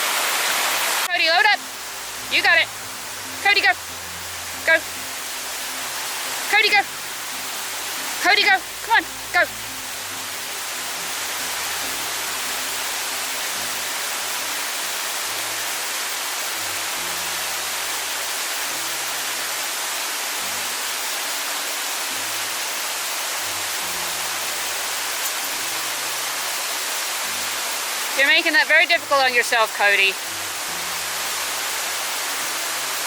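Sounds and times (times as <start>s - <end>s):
waterfall rushing water: 0.0s - 33.0s
soft music of low sustained notes: 1.2s - 33.0s.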